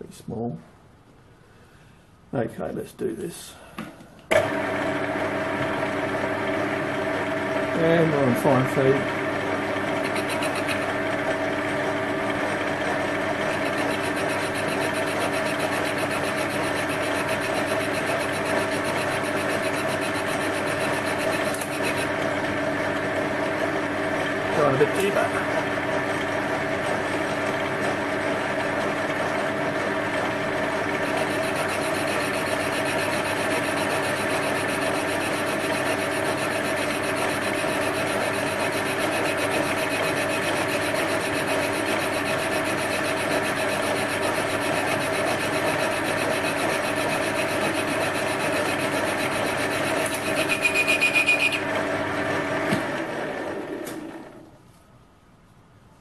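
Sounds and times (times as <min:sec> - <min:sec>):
metal lathe running: 0:04.4 - 0:53.0.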